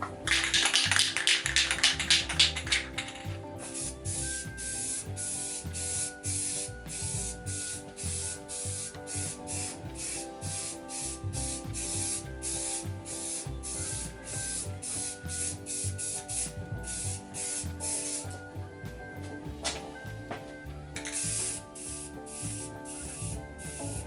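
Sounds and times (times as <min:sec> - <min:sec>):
music playing: 0:00.0 - 0:24.0.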